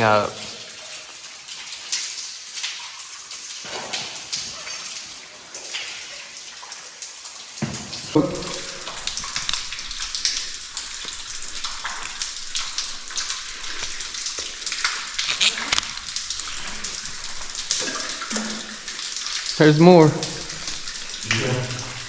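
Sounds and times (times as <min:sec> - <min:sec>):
waterfall splashing in a cave: 0:00.0 - 0:22.0.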